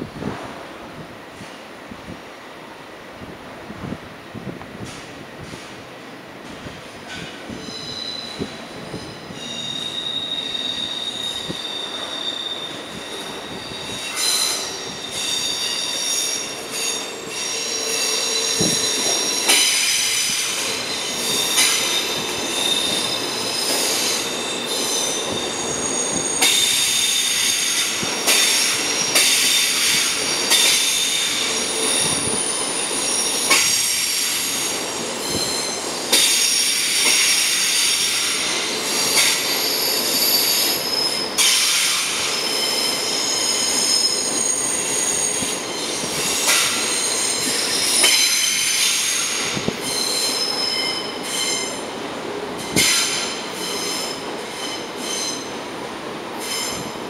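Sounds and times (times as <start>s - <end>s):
train rumble: 3.1s - 57.0s
train wheels squealing: 6.8s - 52.0s, 52.6s - 55.6s, 56.4s - 57.0s.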